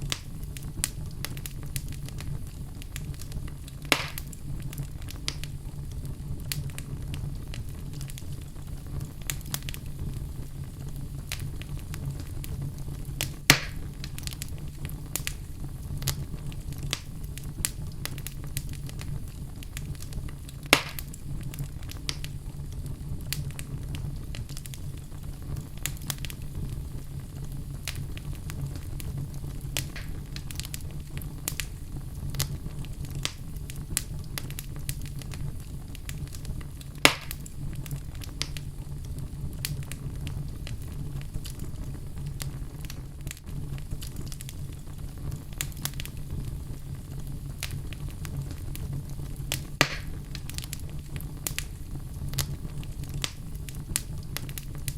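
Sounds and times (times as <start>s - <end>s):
fire crackling: 0.0s - 54.9s
loud fire pops: 0.0s - 54.9s
wood fire burning: 0.0s - 54.9s.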